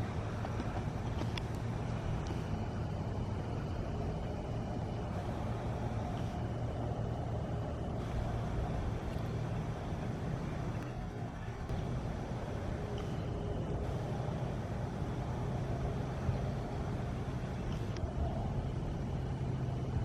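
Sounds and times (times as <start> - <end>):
faint high whine: 0.0 - 20.0
low outdoor rumble: 0.0 - 20.0.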